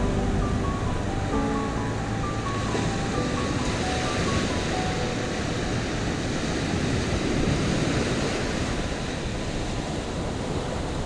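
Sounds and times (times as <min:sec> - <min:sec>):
ocean surf breaking on beach: 0:00.0 - 0:11.0
wind rumbling on microphone: 0:00.0 - 0:11.0.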